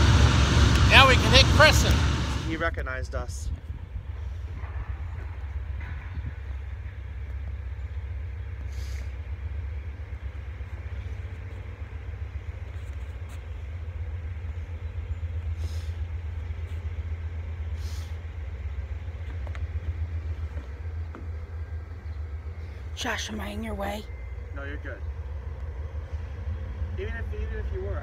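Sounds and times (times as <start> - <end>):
locomotives rumbling: 0.0 - 28.0.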